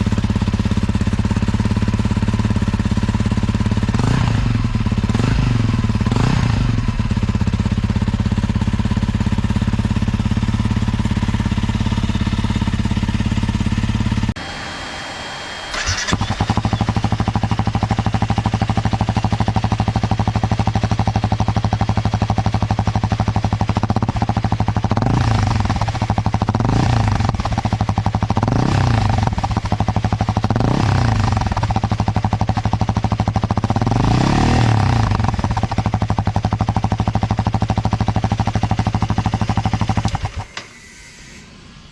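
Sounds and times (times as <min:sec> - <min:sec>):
motorcycle engine idling and revving: 0:00.0 - 0:41.9.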